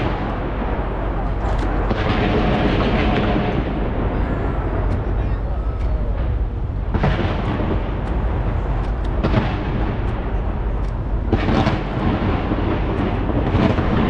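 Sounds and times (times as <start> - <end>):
fireworks booming and crackling: 0.0 - 14.0.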